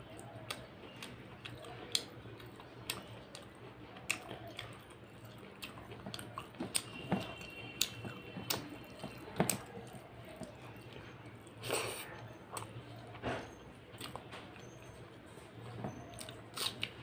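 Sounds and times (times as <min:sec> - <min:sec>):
person chewing: 0:00.1 - 0:17.0.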